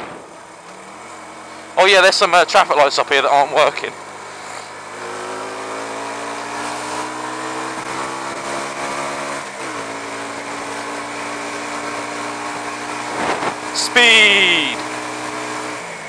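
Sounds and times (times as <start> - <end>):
motorcycle engine riding: 0.0 - 16.0
wind and road noise: 0.0 - 16.0.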